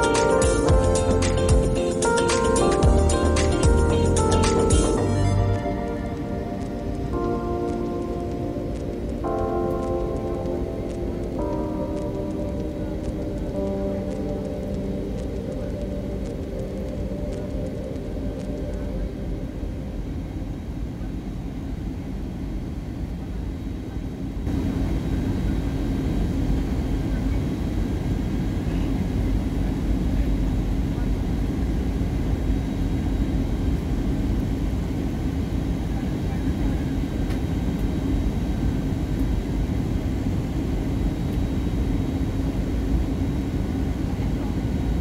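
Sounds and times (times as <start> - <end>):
aircraft engines droning: 0.0 - 45.0.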